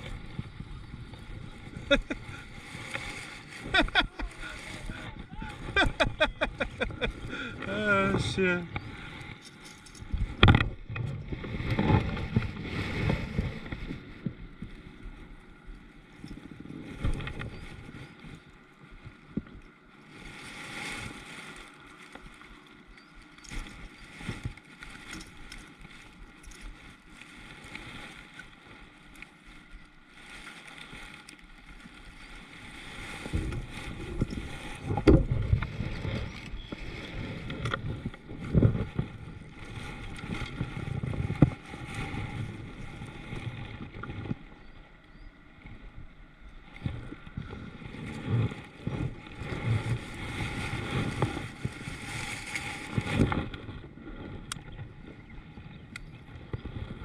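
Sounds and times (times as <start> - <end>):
water moving around kayak hull: 0.0 - 57.0.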